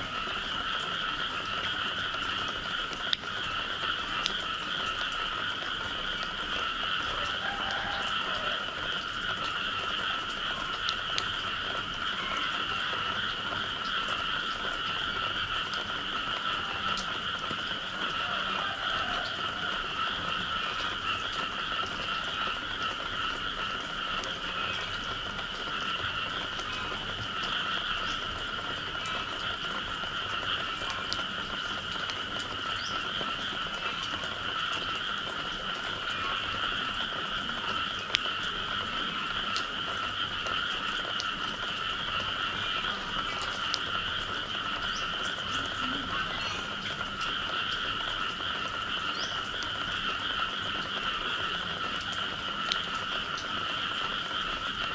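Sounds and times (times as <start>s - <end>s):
frogs trilling in chorus: 0.0s - 54.9s.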